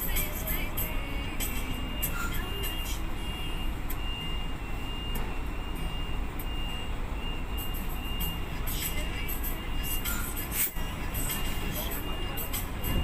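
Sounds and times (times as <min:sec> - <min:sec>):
heavy vehicle engine rumbling: 0:00.0 - 0:13.0
reversing alarm beeping: 0:00.0 - 0:13.0.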